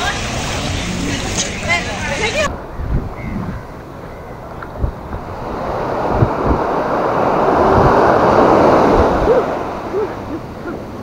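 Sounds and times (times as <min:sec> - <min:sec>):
surf washing up a beach: 0:00.0 - 0:11.0
wind buffeting microphone: 0:00.0 - 0:11.0.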